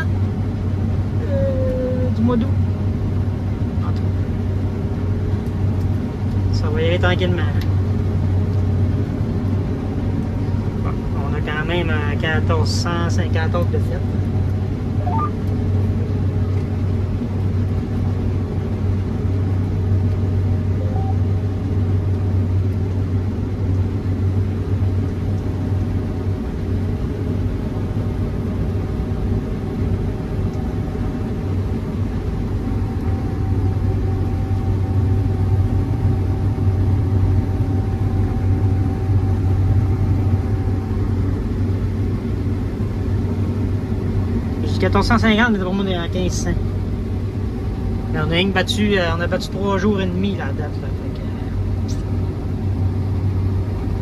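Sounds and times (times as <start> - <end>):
combine harvester drone from cab: 0.0 - 54.0.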